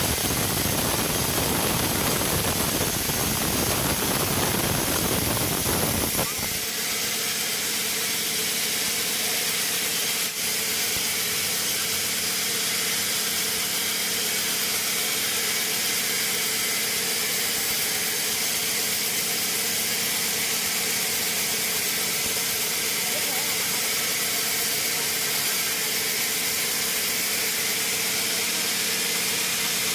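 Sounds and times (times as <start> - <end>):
sawmill machinery hiss: 0.0 - 29.9.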